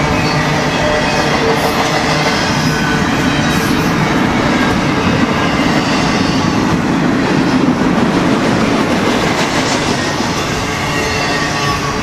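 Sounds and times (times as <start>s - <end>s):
steel wheels rolling on rail: 0.0s - 12.0s.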